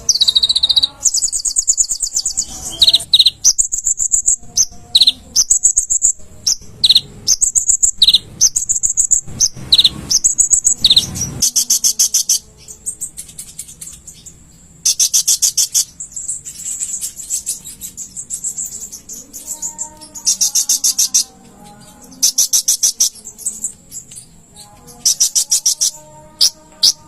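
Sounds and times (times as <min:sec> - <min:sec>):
sunbird singing high chirps and trills: 0:00.0 - 0:27.0.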